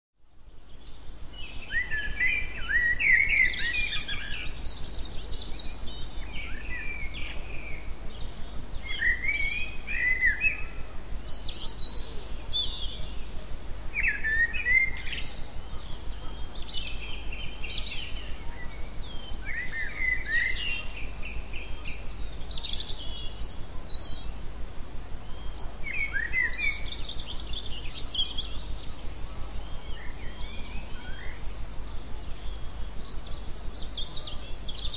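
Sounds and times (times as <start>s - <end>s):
low background hum: 0.2s - 34.9s
songbirds chirping and trilling: 0.2s - 34.9s.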